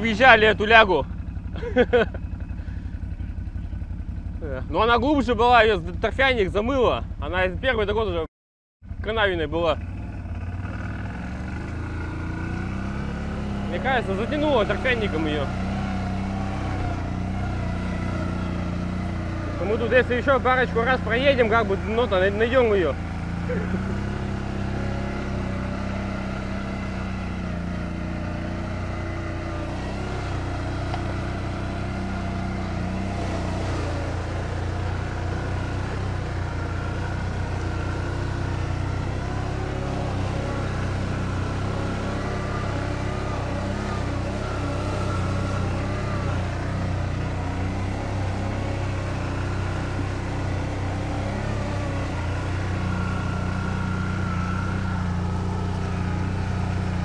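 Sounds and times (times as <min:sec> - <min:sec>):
atv engine running: 0:00.0 - 0:08.2, 0:08.8 - 0:57.0.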